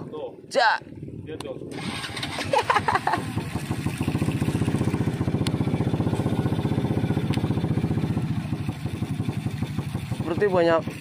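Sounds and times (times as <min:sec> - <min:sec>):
small boat engine chugging: 0:01.7 - 0:11.0.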